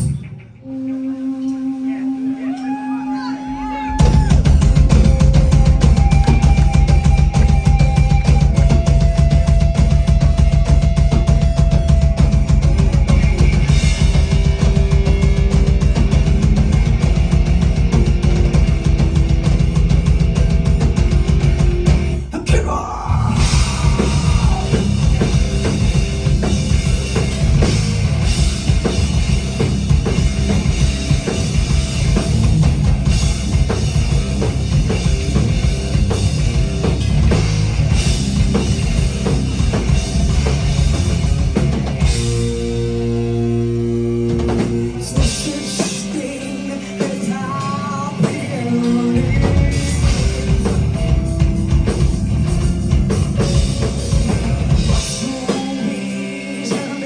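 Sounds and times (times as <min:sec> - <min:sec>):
drum kit: 0:00.0 - 0:57.0
rock band playing: 0:00.0 - 0:57.0.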